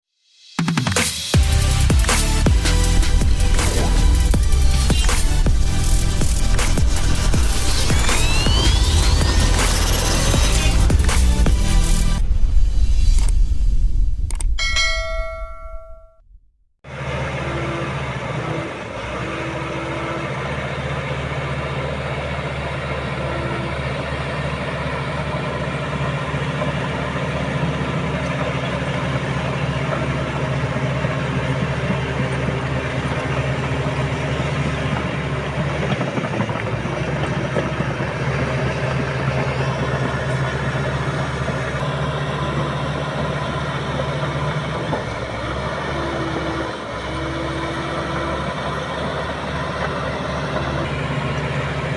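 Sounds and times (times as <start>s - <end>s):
bulldozer diesel engine running: 1.4s - 12.6s, 16.9s - 51.9s.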